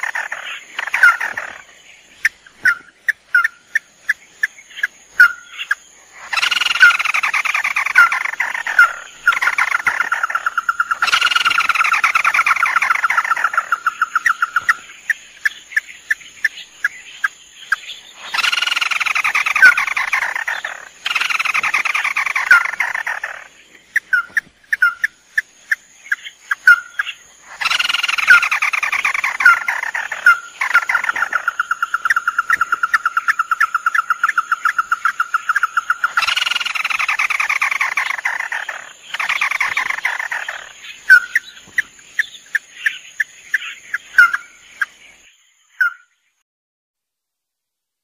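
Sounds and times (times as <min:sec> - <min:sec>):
fast repeated bird notes: 0:00.0 - 0:45.0.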